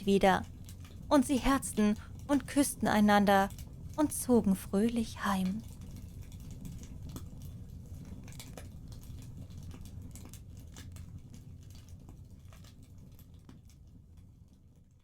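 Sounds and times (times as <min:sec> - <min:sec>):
fireplace fire crackling: 0:00.0 - 0:14.4.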